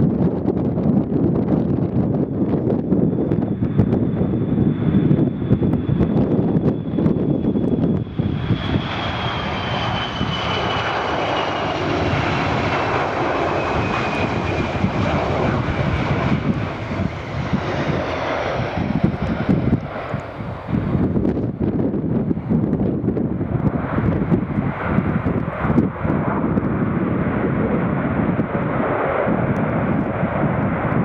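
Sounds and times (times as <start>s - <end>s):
jet engines passing by: 0.0s - 31.0s.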